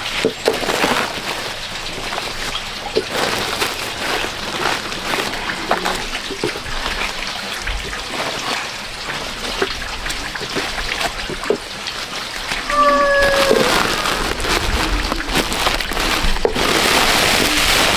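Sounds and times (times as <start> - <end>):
small water drips: 0.0 - 17.9
water trickling and splashing: 0.0 - 17.9.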